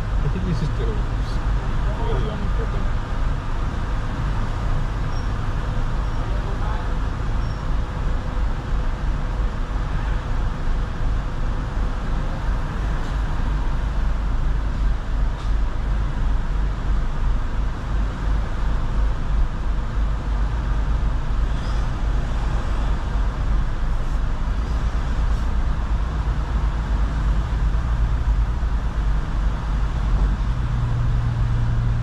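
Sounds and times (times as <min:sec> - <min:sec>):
vehicle engines rumbling: 0:00.0 - 0:32.0.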